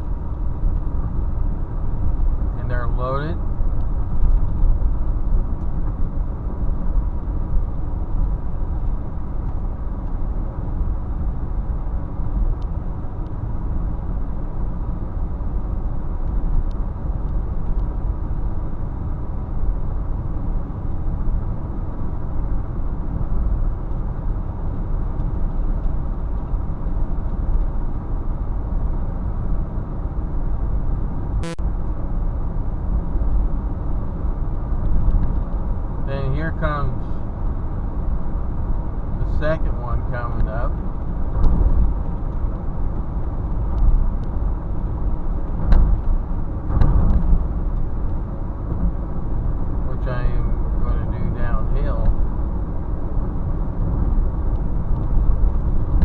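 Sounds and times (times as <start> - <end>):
car driving interior rumble: 0.0 - 56.0.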